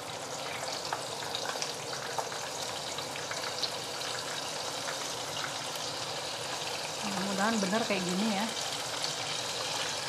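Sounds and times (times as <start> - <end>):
oil popping and crackling: 0.0 - 10.0
tofu sizzling in hot oil: 0.0 - 10.0.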